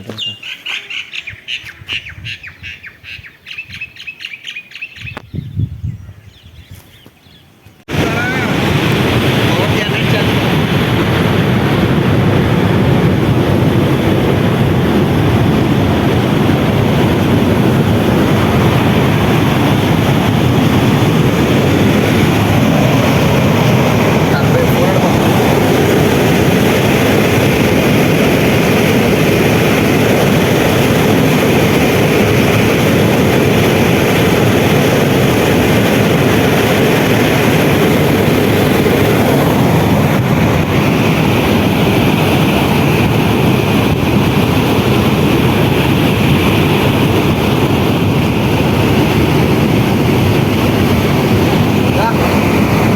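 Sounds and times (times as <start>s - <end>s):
moving vehicle rushing drone: 7.8s - 52.9s.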